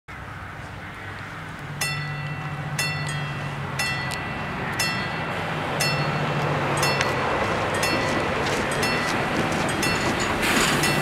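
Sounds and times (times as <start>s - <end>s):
lorry engine running: 0.6s - 11.0s
level crossing warning bells: 1.7s - 11.0s.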